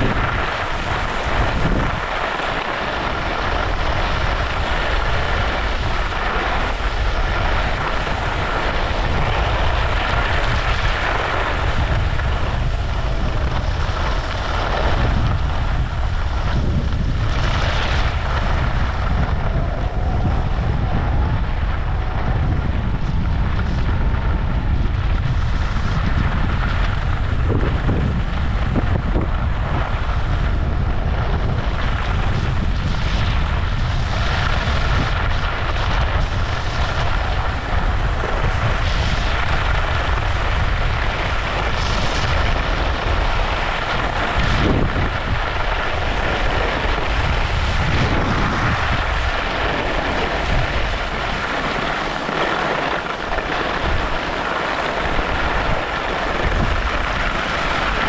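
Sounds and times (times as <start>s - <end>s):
skis scraping on snow: 0.0s - 19.8s, 25.5s - 58.0s
wind buffeting microphone: 0.0s - 58.0s.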